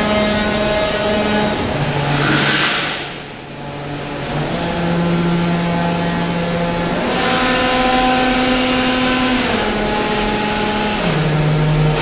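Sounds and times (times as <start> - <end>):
hydraulic machine whine: 0.0 - 12.0.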